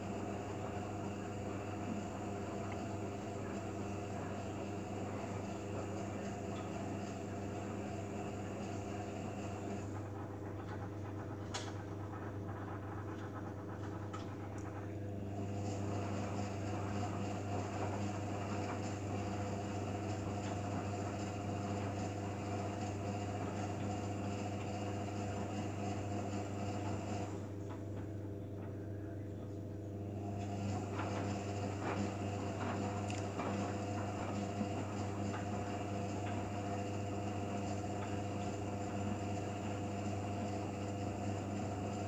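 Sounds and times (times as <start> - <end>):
washing machine hum: 0.0 - 42.0.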